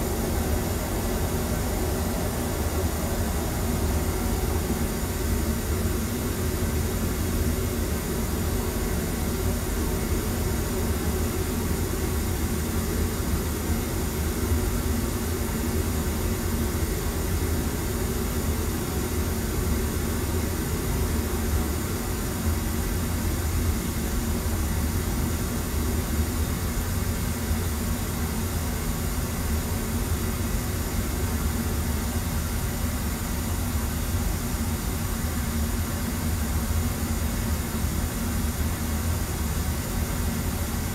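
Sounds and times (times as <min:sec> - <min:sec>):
pink noise hiss: 0:00.0 - 0:40.9.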